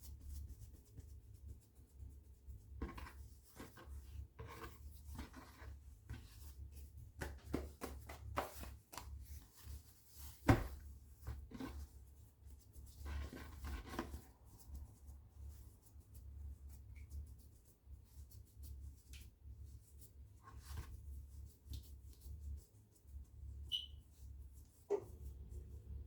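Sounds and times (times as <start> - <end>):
hands rubbing dough on wood: 0.0 - 26.0.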